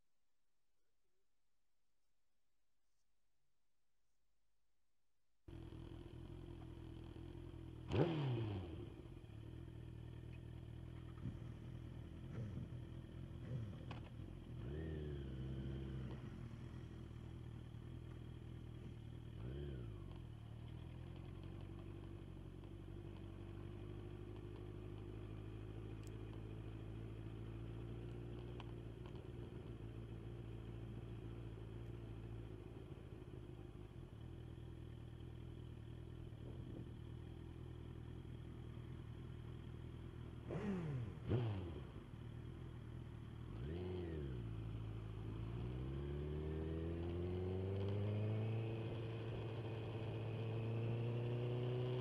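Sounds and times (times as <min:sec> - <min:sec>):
motorcycle engine cruising: 0:05.5 - 0:52.0.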